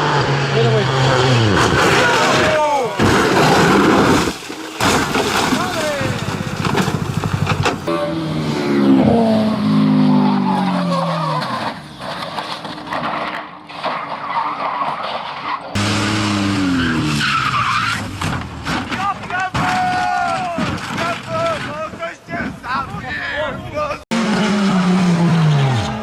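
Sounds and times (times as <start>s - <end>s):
engine and tyre noise: 0.0s - 19.3s, 24.0s - 26.0s.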